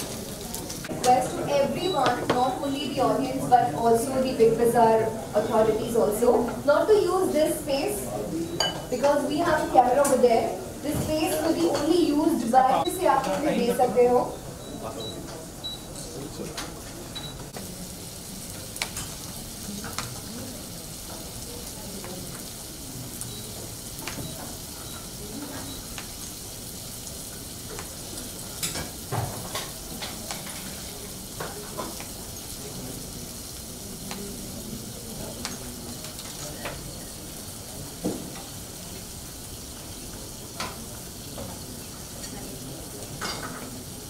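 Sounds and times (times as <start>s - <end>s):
vegetables sizzling in a frying pan: 0.0s - 44.0s.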